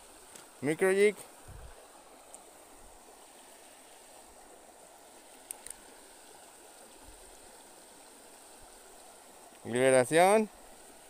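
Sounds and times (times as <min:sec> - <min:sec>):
shallow river flowing: 0:00.0 - 0:11.0.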